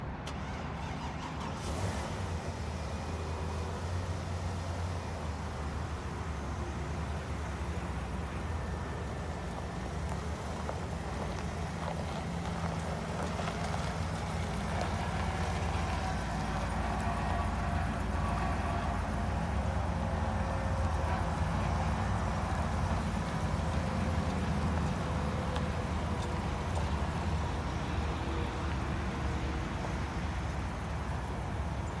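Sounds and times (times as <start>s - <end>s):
truck engine idling: 0.3s - 32.0s.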